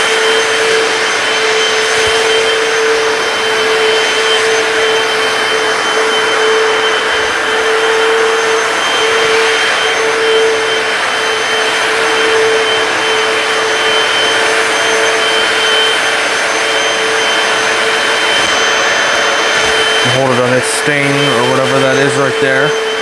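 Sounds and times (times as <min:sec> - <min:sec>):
floor cleaner running: 0:00.0 - 0:23.0.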